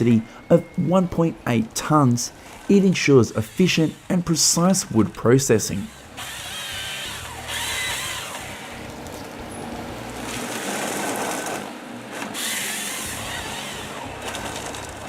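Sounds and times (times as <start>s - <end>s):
forestry harvester machine noise: 0.0s - 15.0s
high machine whine: 0.0s - 15.0s.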